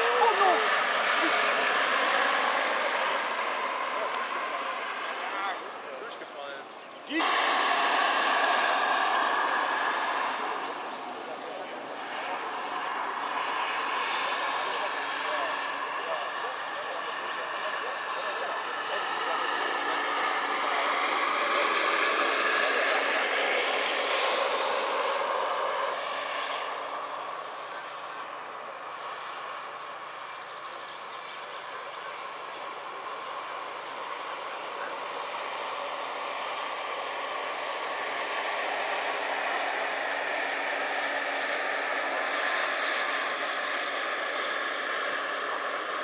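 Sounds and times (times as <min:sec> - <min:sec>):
model jet engine whine: 0:00.0 - 0:46.0.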